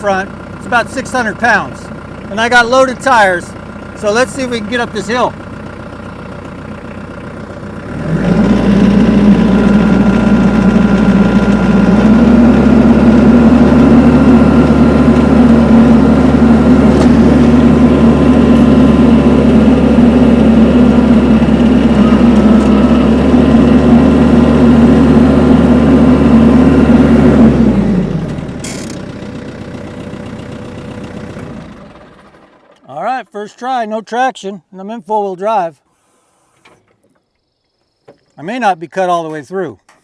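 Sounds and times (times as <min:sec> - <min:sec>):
tractor engine revving: 0:00.0 - 0:33.2.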